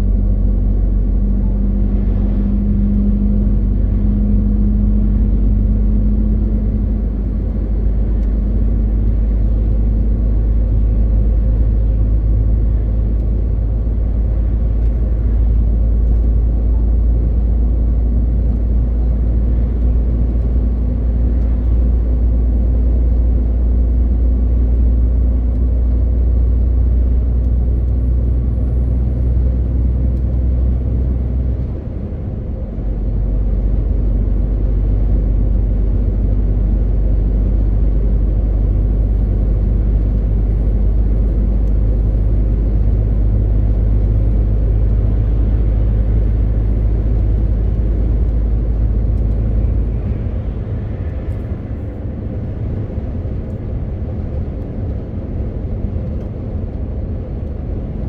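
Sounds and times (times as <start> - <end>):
road noise: 0.0 - 58.0
truck diesel engine drone: 0.0 - 58.0.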